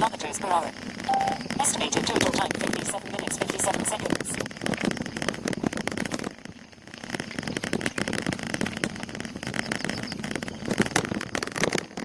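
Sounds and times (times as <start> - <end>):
bicycle rattling over road: 0.0 - 12.0
wind buffeting microphone: 0.0 - 12.0.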